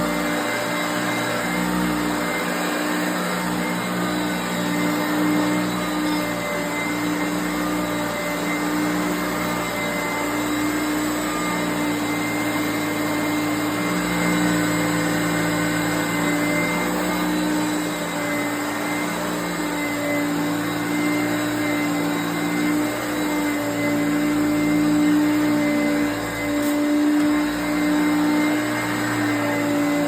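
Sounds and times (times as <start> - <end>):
vacuum cleaner motor hum and whine: 0.0 - 30.0.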